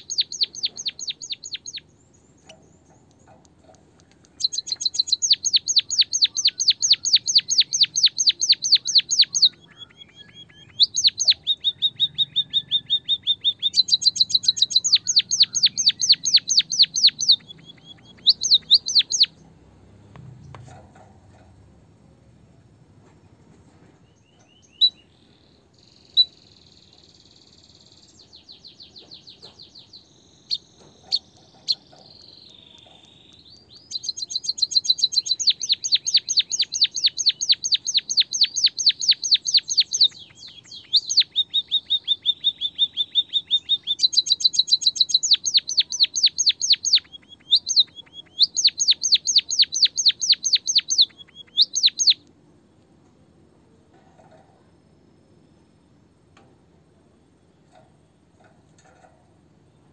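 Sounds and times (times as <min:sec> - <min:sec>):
songbird chirping and trilling: 0:00.0 - 0:59.9.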